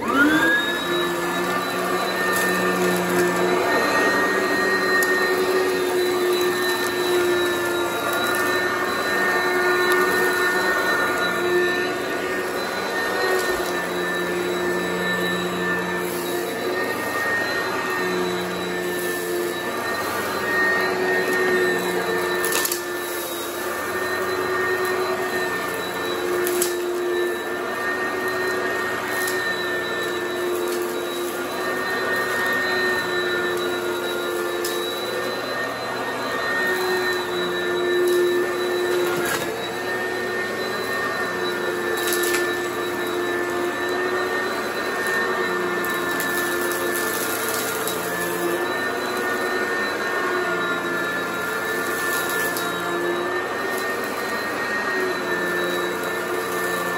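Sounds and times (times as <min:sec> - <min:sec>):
vacuum cleaner whine: 0:00.0 - 0:56.9.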